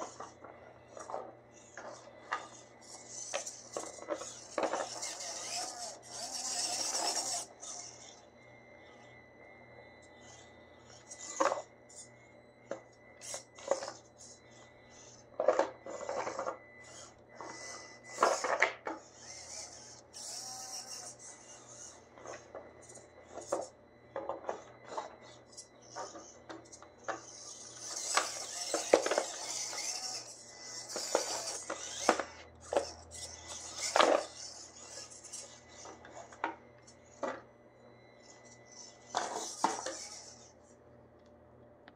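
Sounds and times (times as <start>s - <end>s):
drivetrain whir: 0.0s - 41.9s.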